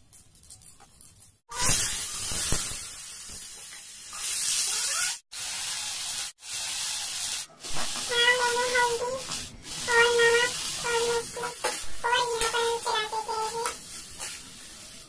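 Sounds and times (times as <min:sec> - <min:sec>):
potatoes frying in hot oil: 0:00.0 - 0:15.0.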